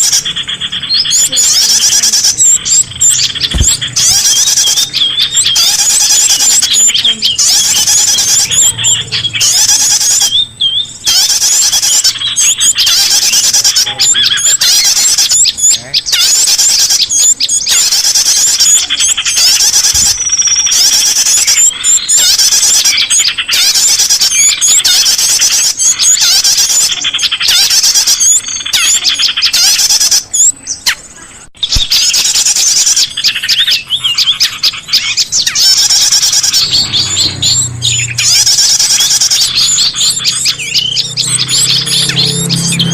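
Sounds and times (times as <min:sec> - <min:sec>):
songbirds chirping and trilling: 0:00.0 - 0:42.9.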